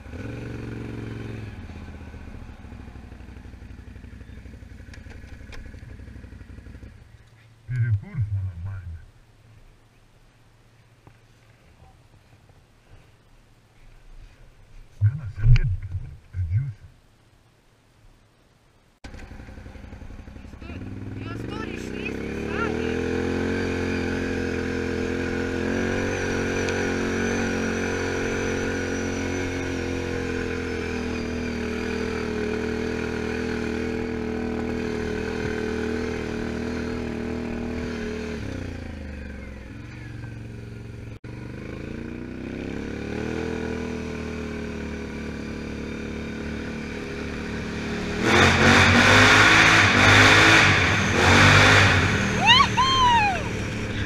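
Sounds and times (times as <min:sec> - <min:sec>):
engine and tyre noise echoing: 0:00.0 - 0:08.8, 0:19.0 - 0:54.0
atv engine running: 0:00.0 - 0:09.9, 0:19.0 - 0:54.0.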